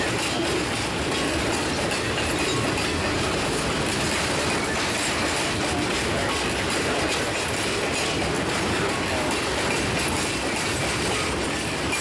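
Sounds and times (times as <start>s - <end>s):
railcar wheels rumbling on track: 0.0s - 12.0s
wheels clicking over rail joints: 0.0s - 12.0s.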